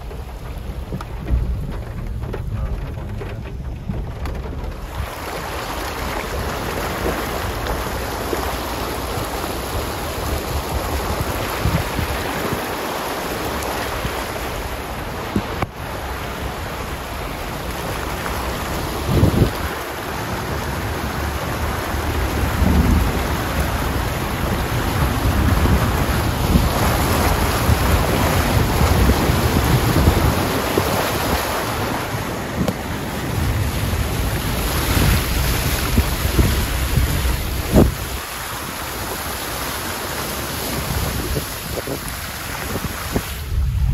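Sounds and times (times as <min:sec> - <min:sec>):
tyres splashing through floodwater: 0:00.0 - 0:43.9
wind buffeting microphone: 0:00.0 - 0:43.9.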